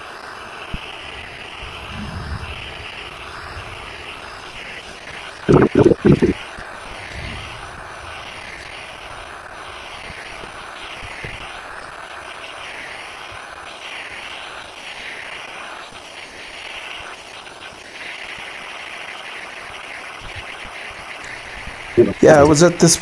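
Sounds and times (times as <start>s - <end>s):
butane torch hissing: 0.0s - 23.0s.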